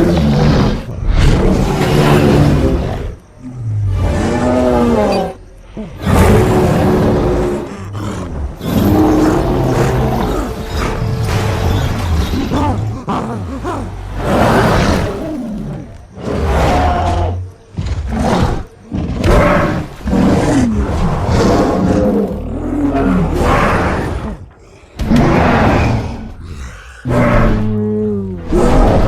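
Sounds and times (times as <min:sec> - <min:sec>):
gorilla roars and growls: 0:00.0 - 0:29.0.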